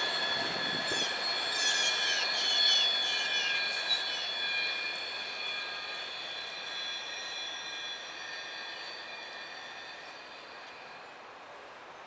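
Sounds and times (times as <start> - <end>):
train wheels squealing on rails: 0.0 - 11.9
freight train rumble: 0.0 - 12.0.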